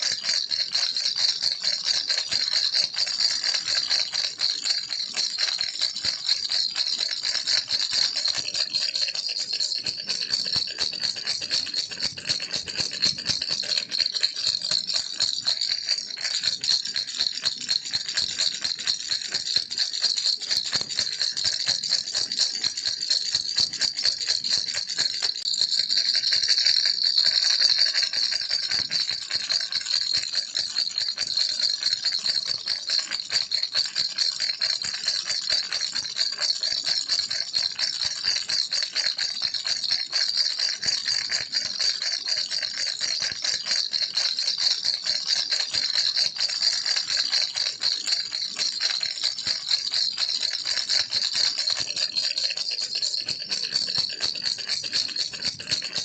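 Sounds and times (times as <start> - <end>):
baby rattle shaken: 0.0 - 34.1, 34.7 - 56.0.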